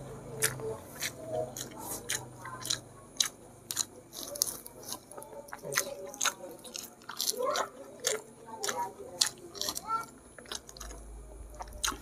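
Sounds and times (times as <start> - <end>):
wet chewing and lip-smacking: 0.2 - 12.0.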